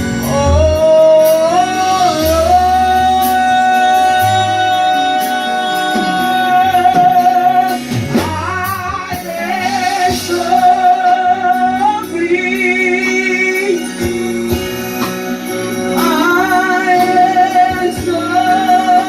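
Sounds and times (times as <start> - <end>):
worship band playing: 0.0 - 19.0.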